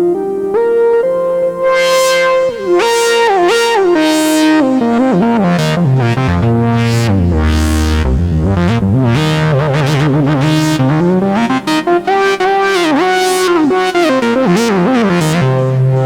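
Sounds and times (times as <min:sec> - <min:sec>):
buzzy synthesizer gliding notes: 0:00.0 - 0:16.0.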